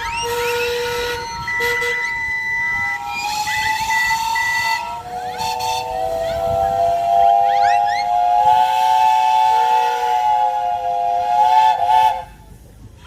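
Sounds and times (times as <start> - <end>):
steam whistle blowing: 0.0 - 12.5
steam hissing: 0.0 - 13.0.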